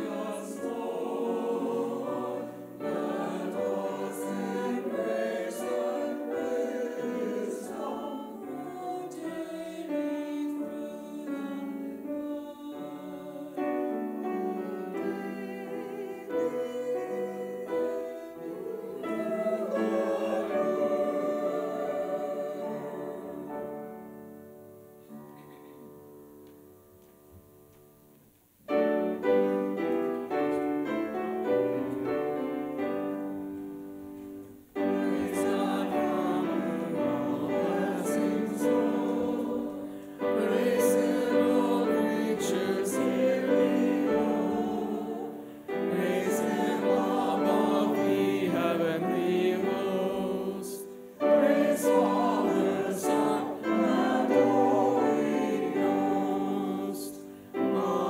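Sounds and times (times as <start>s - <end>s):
choir singing a hymn: 0.0s - 26.3s, 28.7s - 58.0s
piano accompaniment: 0.0s - 58.0s.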